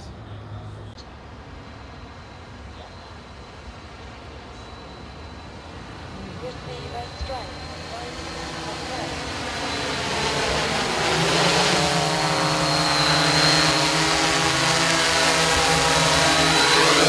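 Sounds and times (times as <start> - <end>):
drone propellers buzzing: 1.6 - 17.0.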